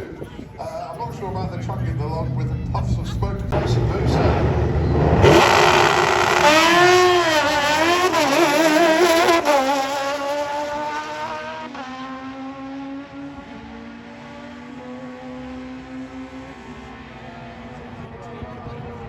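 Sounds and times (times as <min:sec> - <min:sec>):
drag racing motorcycle accelerating: 0:01.0 - 0:19.0.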